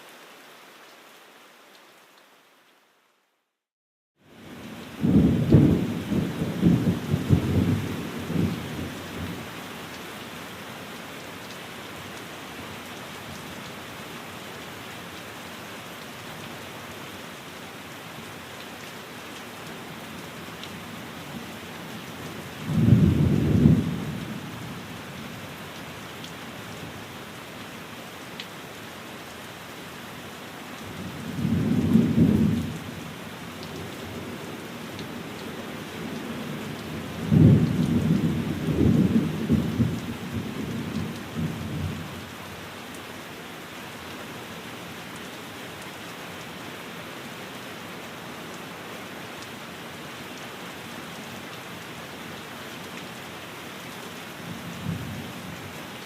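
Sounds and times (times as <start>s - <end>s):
steady rain: 0.0s - 3.6s, 4.2s - 56.0s.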